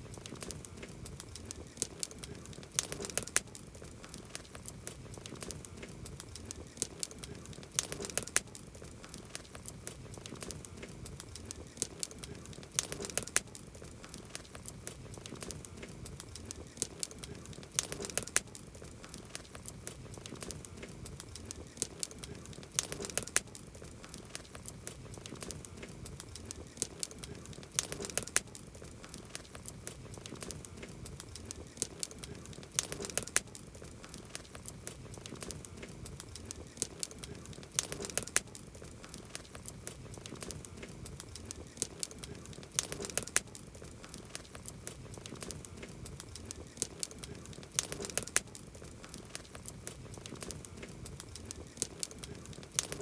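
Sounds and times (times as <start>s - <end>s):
campfire crackling and popping: 0.0s - 53.0s
low fire hiss: 0.0s - 53.0s.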